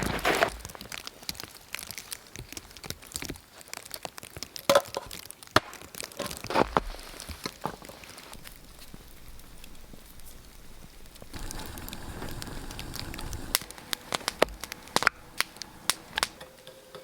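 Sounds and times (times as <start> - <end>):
sharp cracks and crunching: 0.0 - 16.5.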